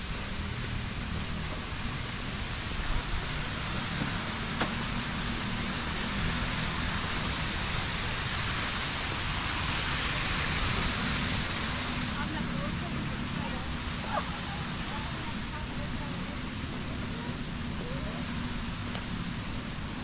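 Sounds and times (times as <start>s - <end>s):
even hiss: 0.0s - 20.0s.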